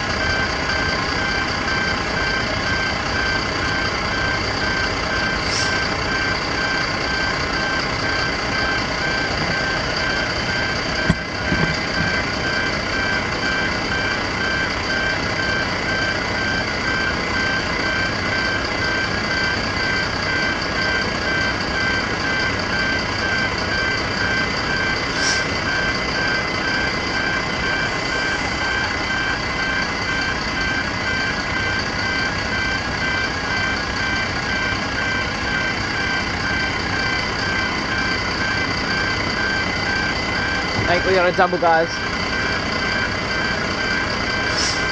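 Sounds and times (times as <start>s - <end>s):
rapid electronic alarm beeping: 0.0s - 44.9s.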